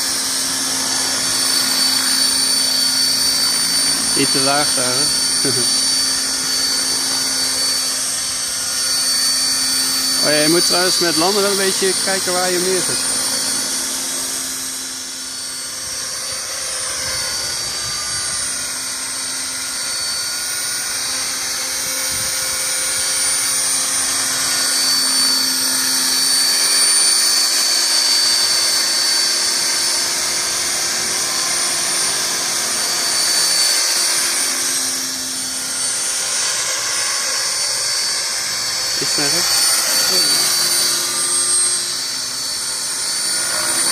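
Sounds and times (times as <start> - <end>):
high-pitched motor whine: 0.0 - 43.9
spinning rotor hum: 0.0 - 43.9.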